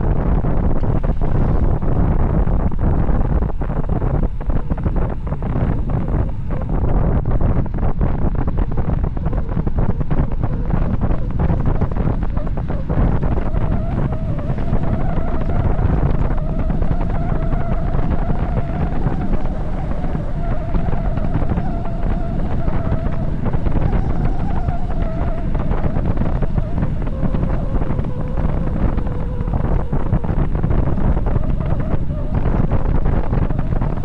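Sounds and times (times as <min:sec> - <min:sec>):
steady whine: 0:00.0 - 0:34.0
wind buffeting microphone: 0:00.0 - 0:34.0.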